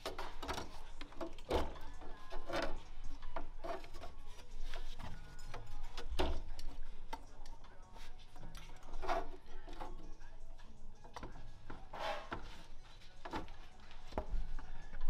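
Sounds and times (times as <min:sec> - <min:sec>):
car parts clicking and knocking: 0:00.0 - 0:07.6, 0:08.4 - 0:15.0.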